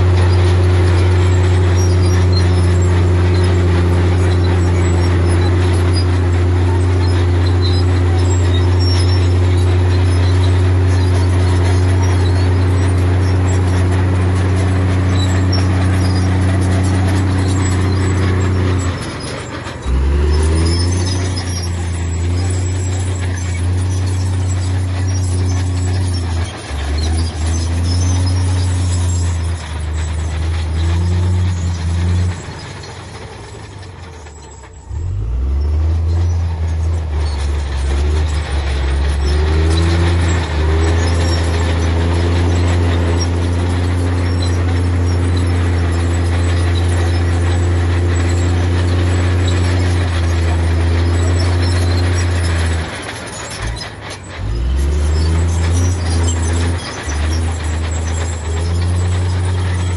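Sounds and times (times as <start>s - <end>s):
heavy diesel engine under load: 0.0s - 59.9s.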